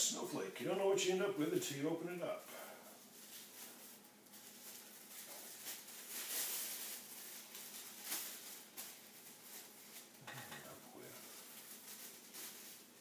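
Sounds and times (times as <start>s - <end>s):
plastic bag crinkling: 2.4s - 13.0s.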